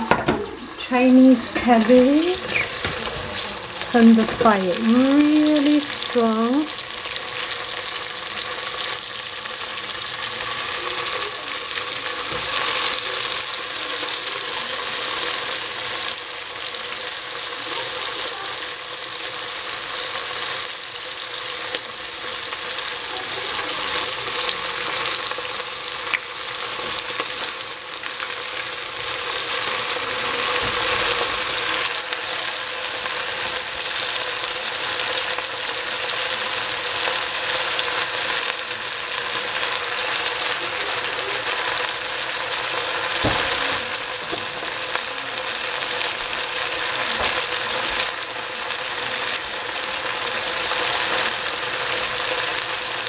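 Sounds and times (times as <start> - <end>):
vegetables sizzling in hot oil: 0.0 - 53.0.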